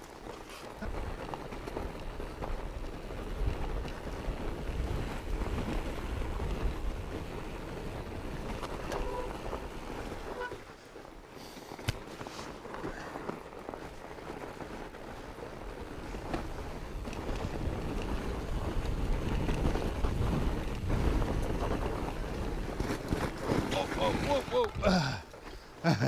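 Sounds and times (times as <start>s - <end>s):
wind buffeting microphone: 0.7s - 10.6s, 12.8s - 25.5s.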